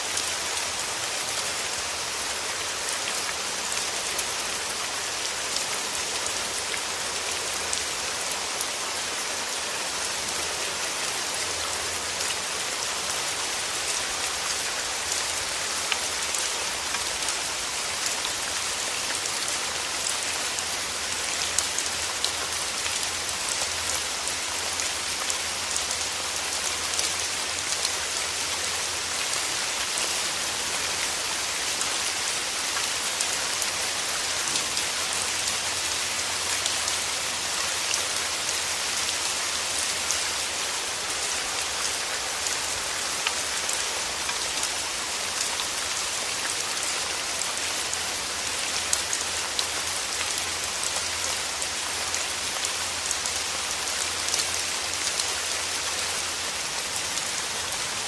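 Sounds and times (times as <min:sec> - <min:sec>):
steady rain with drop ticks: 0:00.0 - 0:58.0.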